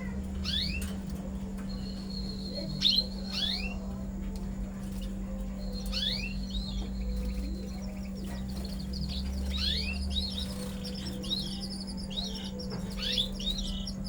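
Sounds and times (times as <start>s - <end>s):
canaries chirping and singing: 0.0s - 14.0s
steady low hum: 0.0s - 14.0s.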